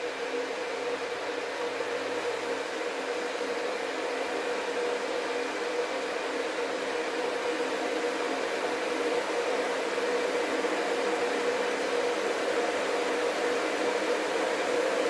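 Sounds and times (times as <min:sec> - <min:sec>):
electric kettle hissing: 0:00.0 - 0:15.0.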